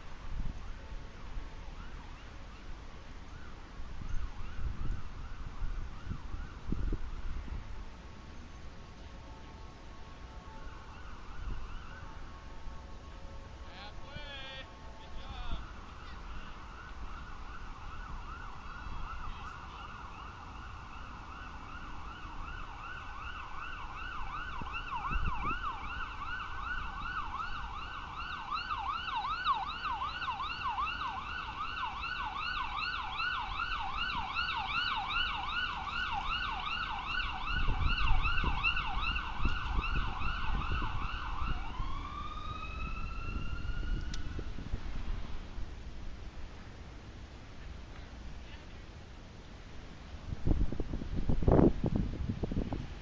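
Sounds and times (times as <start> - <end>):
emergency siren yelp and wail: 0.0 - 48.4, 49.3 - 53.0.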